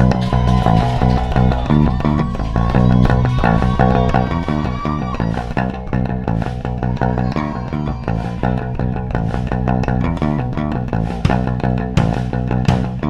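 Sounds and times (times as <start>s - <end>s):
low bass line: 0.0s - 13.0s
plucked string notes: 0.0s - 13.0s.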